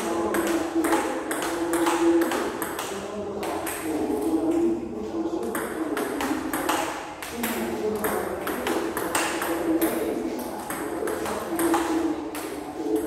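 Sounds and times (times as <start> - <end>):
ball bouncing on table: 0.0 - 3.9, 5.4 - 13.0
ball clicking off paddles: 0.0 - 4.6, 5.4 - 13.0.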